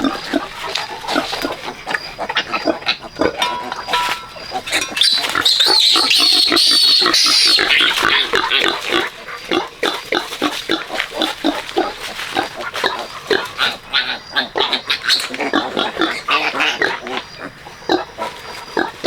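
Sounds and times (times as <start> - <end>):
pig squealing: 0.0 - 18.9
pigs grunting and squeaking: 0.0 - 19.0.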